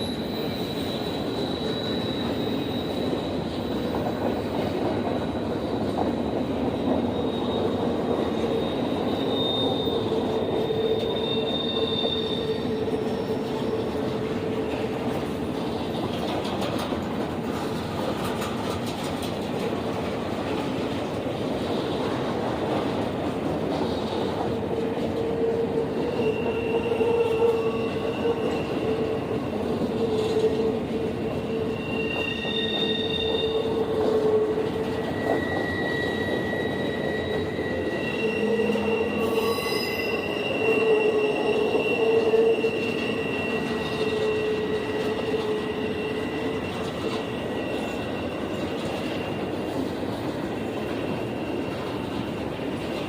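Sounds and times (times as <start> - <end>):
rumble of train cars: 0.0 - 53.0
train wheels squealing: 0.0 - 53.0.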